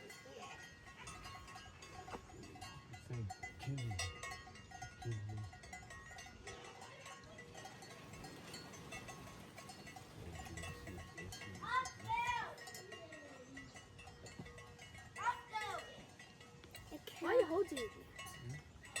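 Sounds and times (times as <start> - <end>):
livestock bells clinking: 0.0 - 19.0.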